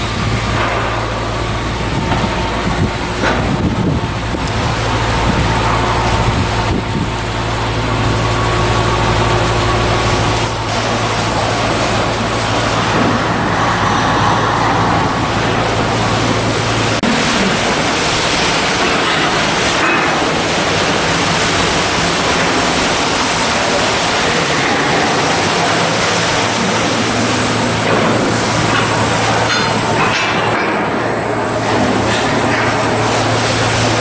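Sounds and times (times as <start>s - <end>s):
low hum: 0.0s - 29.4s
machinery rushing noise: 0.0s - 34.0s.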